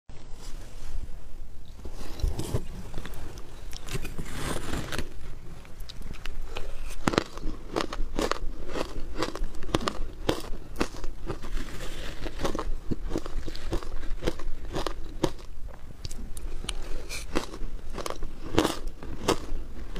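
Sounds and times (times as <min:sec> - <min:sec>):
ice crunching while chewed: 0:03.0 - 0:19.9.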